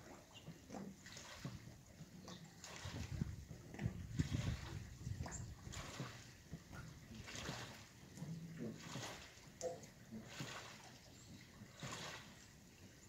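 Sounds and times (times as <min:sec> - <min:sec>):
water lapping against dock: 0:00.0 - 0:13.0.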